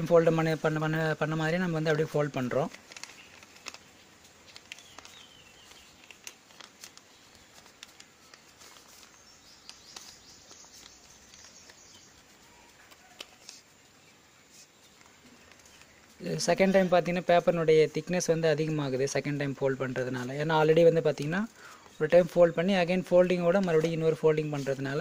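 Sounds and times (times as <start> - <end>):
paper rustling and crackling: 0.0 - 17.2, 18.1 - 25.0.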